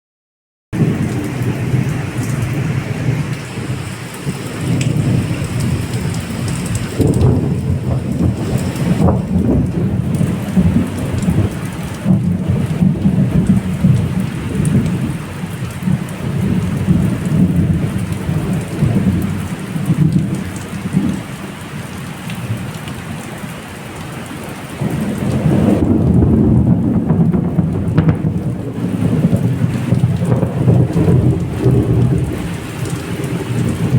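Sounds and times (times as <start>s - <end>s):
thunder rumbling: 0.7s - 21.4s, 24.8s - 33.9s
heavy rain pouring: 0.7s - 33.9s.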